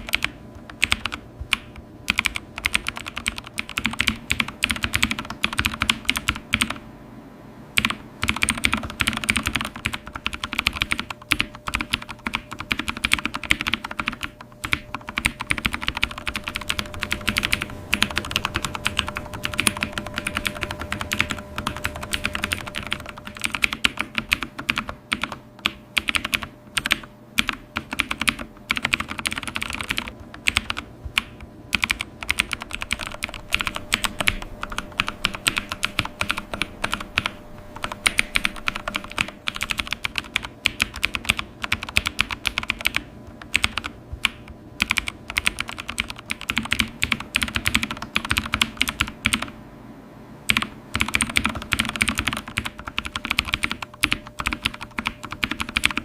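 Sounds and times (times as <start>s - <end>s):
fast typing on a keyboard: 0.0s - 6.8s, 7.8s - 49.6s, 50.5s - 56.0s
faint steady hum: 0.0s - 56.0s.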